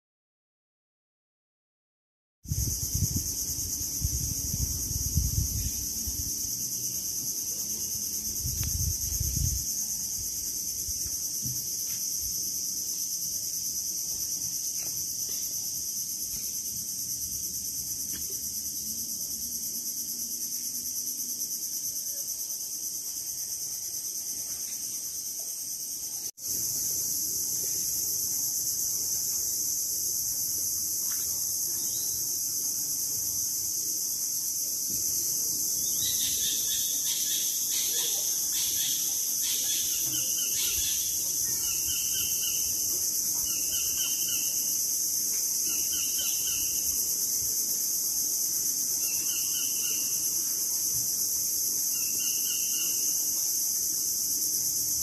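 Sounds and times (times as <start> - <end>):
insects chirring: 2.5 - 55.0.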